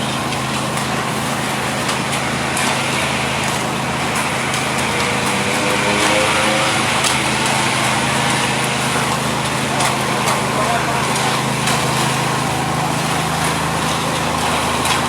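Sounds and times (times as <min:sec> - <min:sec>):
machinery engine droning: 0:00.0 - 0:15.0.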